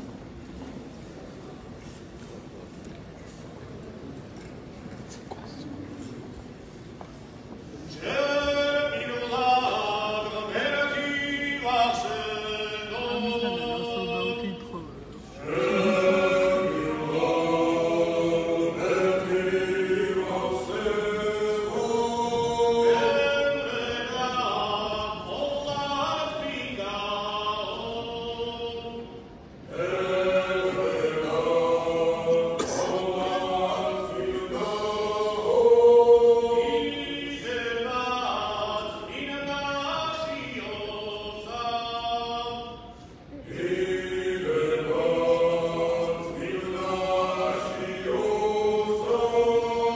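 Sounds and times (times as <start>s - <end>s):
male choir singing a cappella: 7.9s - 49.9s.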